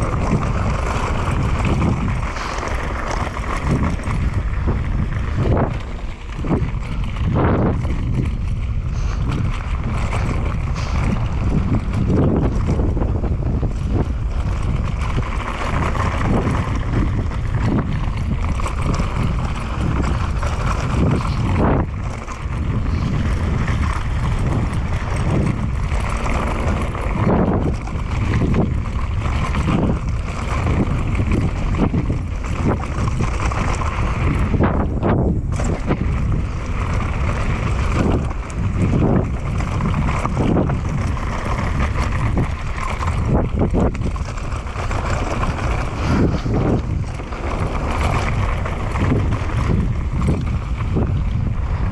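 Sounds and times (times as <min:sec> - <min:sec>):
bike thumps and rattles: 0:00.0 - 0:51.9
bike tyres and drivetrain rumble: 0:00.0 - 0:51.9
wind buffeting microphone: 0:00.0 - 0:51.9.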